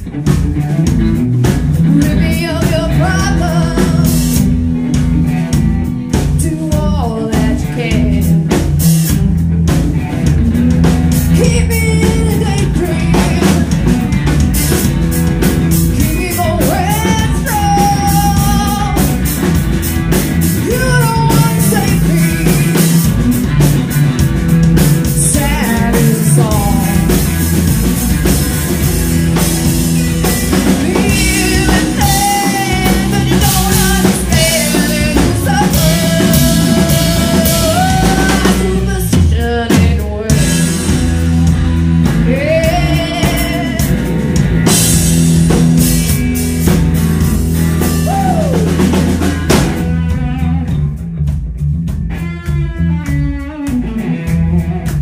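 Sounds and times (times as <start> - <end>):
lead electric guitar bending notes: 0.0 - 55.0
rock band playing: 0.0 - 55.0.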